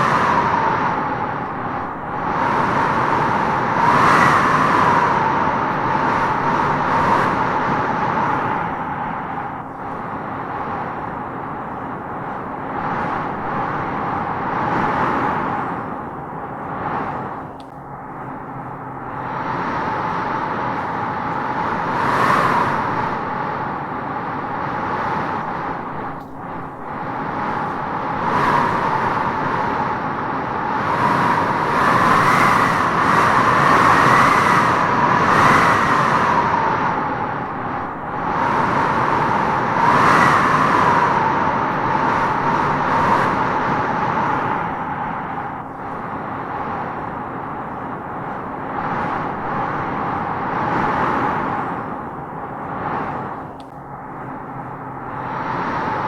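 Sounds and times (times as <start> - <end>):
strong wind gusting through trees: 0.0 - 56.0.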